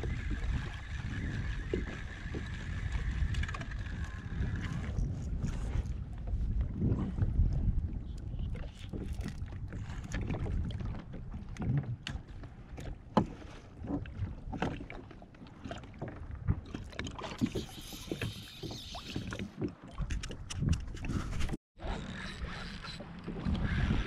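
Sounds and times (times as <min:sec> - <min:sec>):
water lapping against kayak hull: 0:00.0 - 0:24.0.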